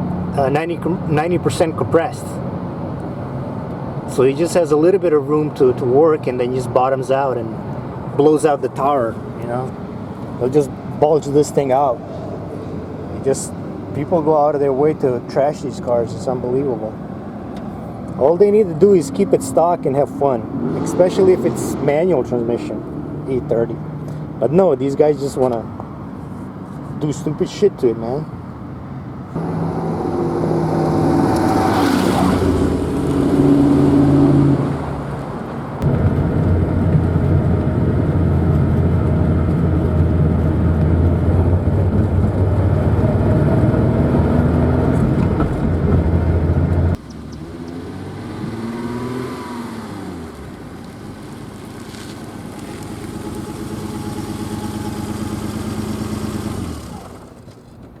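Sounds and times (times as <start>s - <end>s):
car engine pulling steadily: 0.0s - 58.0s.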